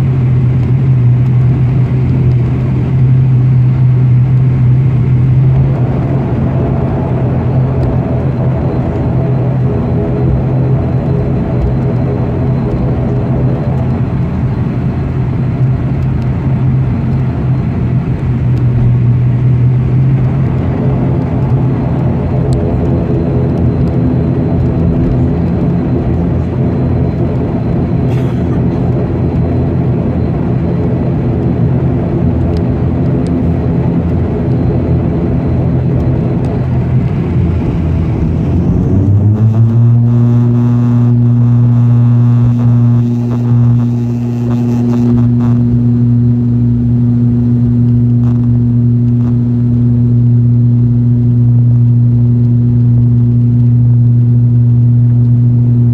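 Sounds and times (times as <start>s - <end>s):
turboprop engines droning: 0.0s - 55.9s.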